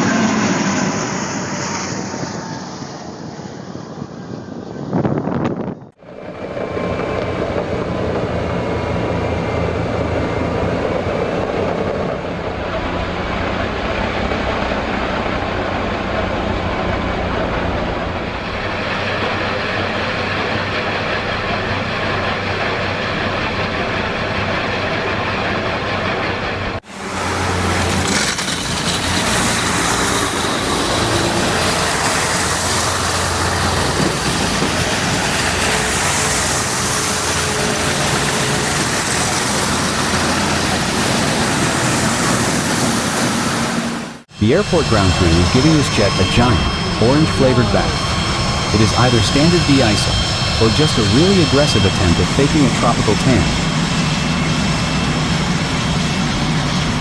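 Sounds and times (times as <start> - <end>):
snow-clearing machinery running: 6.0 - 57.0.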